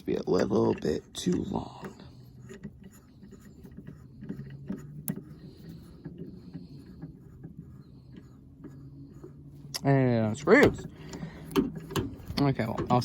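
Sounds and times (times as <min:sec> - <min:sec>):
hands clicking and knocking metal parts: 0:00.0 - 0:13.0.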